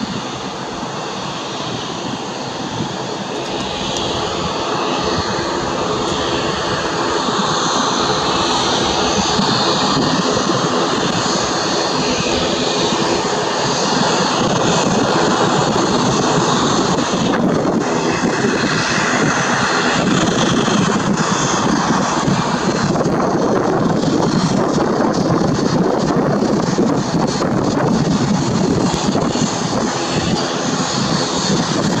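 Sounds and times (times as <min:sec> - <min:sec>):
jet engines at low thrust: 0:00.0 - 0:32.0.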